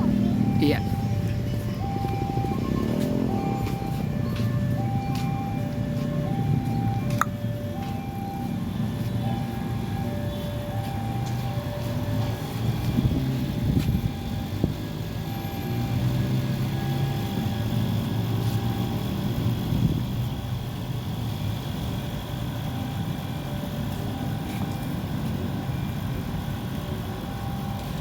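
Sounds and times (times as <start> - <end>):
vehicle engine rumble: 0.0 - 28.0.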